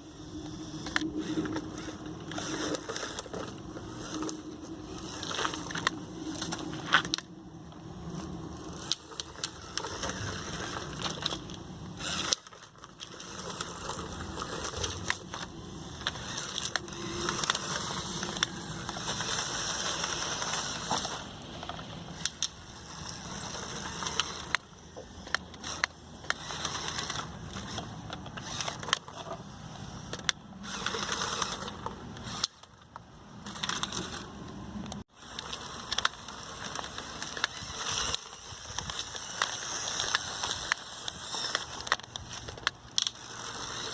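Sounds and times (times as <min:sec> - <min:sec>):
toy motor whirring: 0:00.0 - 0:43.9.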